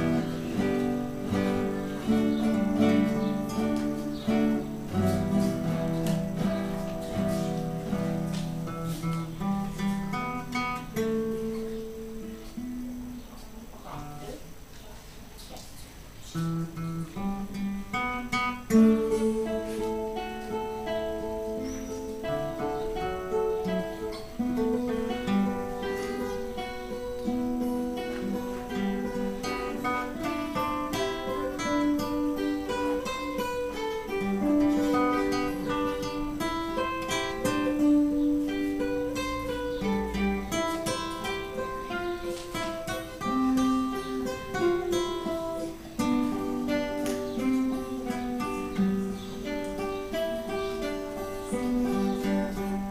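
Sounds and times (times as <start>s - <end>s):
acoustic guitar music: 0.0s - 52.9s.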